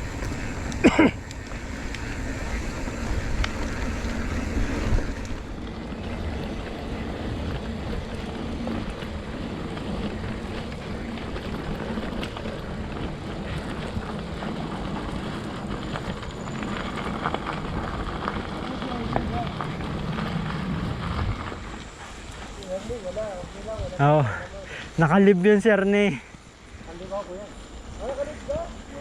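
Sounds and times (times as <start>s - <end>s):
motorcycle engine: 0.0s - 23.8s
wind rushing over microphone: 0.0s - 25.2s
road noise: 0.0s - 29.0s.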